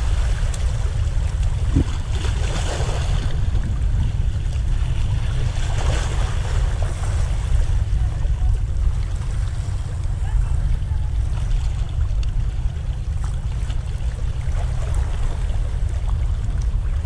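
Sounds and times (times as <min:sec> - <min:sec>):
waves splashing against rocks: 0:00.0 - 0:17.0
wind rumbling on microphone: 0:00.0 - 0:17.0.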